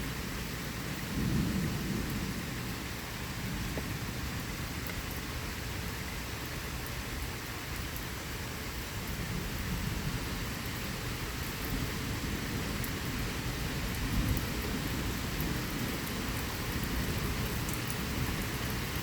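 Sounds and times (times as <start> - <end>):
low rumble of thunder: 0.0 - 6.1, 8.8 - 19.0
steady rain falling: 0.0 - 19.0.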